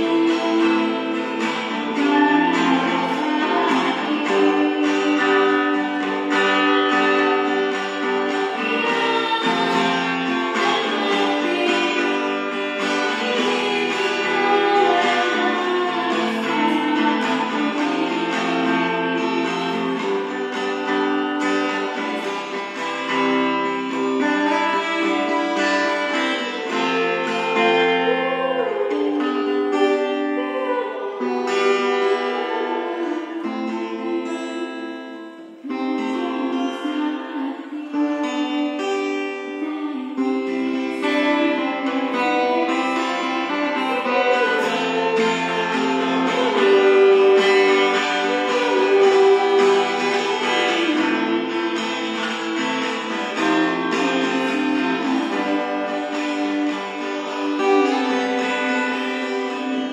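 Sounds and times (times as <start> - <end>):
acoustic guitar: 0.0 - 59.9
woman singing into a microphone: 0.0 - 59.9.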